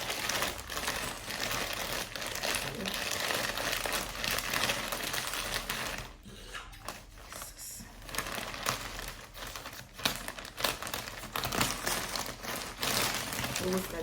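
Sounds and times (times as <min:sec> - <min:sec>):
plastic packaging crinkling: 0:00.0 - 0:06.2, 0:06.8 - 0:14.0.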